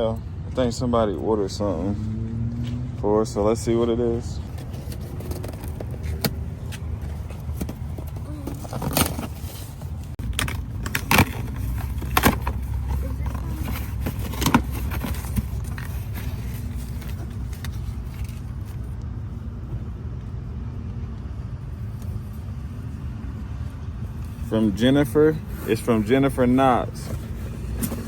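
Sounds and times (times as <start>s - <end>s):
vehicle rumble: 0.0s - 28.0s.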